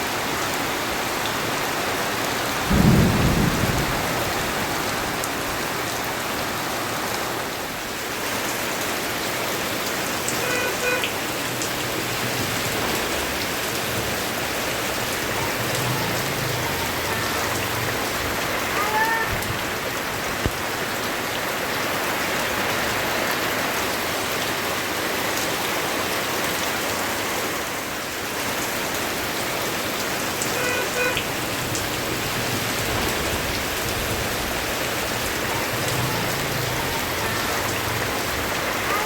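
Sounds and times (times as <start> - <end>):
rain falling on surfaces: 0.0 - 39.0.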